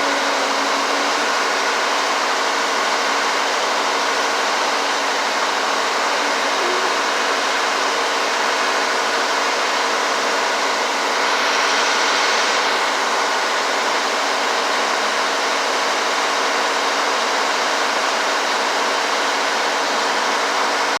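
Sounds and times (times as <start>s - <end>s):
engine running loudly: 0.0s - 21.0s.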